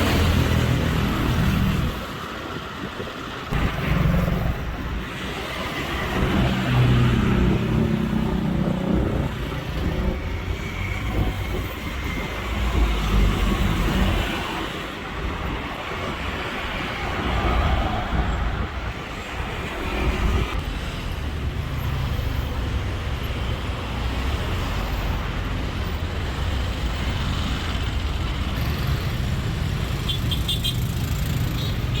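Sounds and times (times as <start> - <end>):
traffic engine hum and road noise: 0.0 - 32.0.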